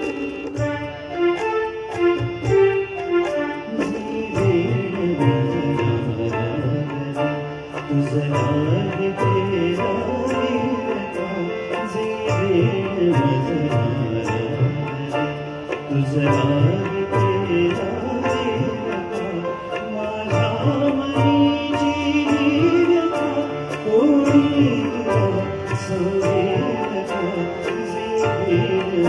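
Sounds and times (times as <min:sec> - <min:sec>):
man singing into a microphone: 0:00.0 - 0:01.5, 0:03.2 - 0:29.0
harmonium: 0:00.0 - 0:29.0
steady percussion beat: 0:00.0 - 0:29.0.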